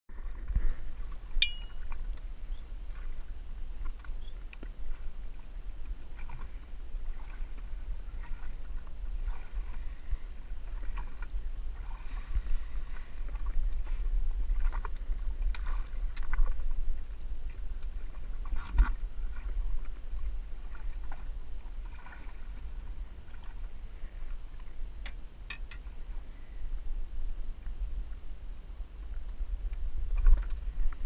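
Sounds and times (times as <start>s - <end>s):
steady low rumble: 0.1s - 31.0s
water splashing against hull: 0.1s - 31.0s.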